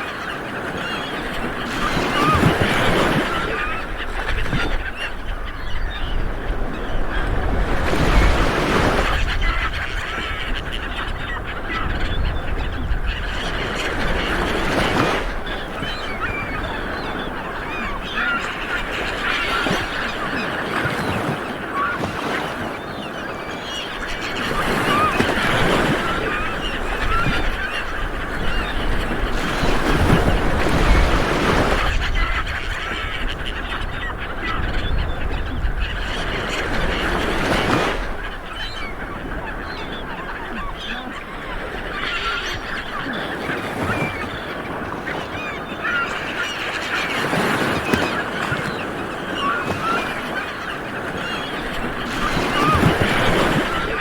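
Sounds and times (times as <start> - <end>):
waves washing onto beach: 0.0 - 54.0.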